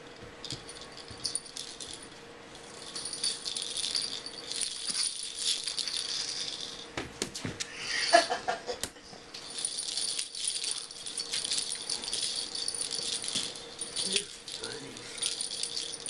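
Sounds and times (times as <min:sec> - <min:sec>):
small bell jingling: 0:00.0 - 0:06.9, 0:09.3 - 0:16.0.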